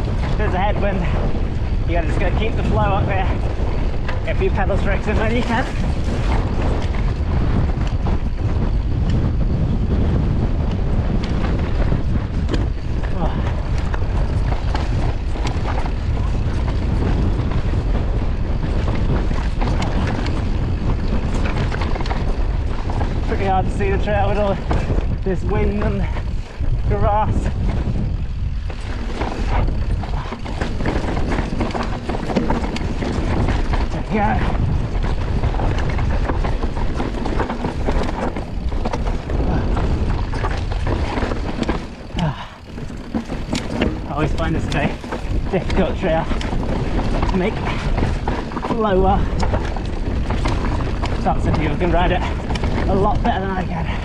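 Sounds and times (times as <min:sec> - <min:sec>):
bike rattling: 0:00.0 - 0:54.0
wind rumbling on microphone: 0:00.0 - 0:54.0.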